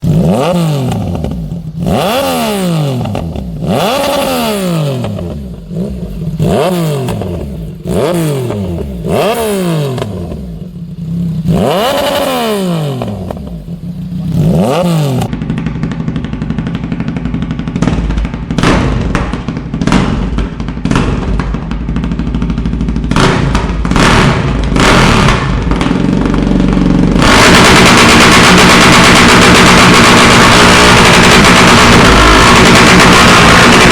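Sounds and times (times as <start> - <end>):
motorcycle exhaust revving: 0.0 - 33.9
loud dense rattling blast: 0.6 - 33.9
motorcycle exhaust cracks and pops: 2.9 - 33.9.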